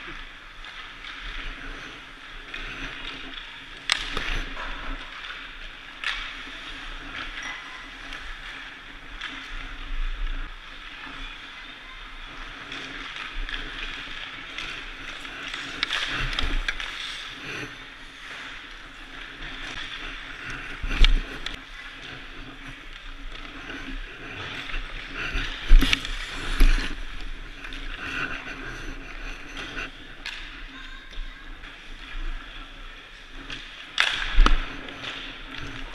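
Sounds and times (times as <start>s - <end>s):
skate blades scraping ice: 0.0s - 35.9s.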